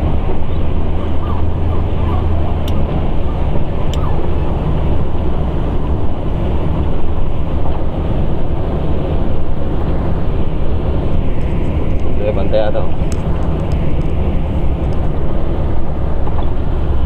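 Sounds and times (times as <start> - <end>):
tyres on rough dirt road: 0.0 - 17.0
vehicle engine running: 0.0 - 17.0.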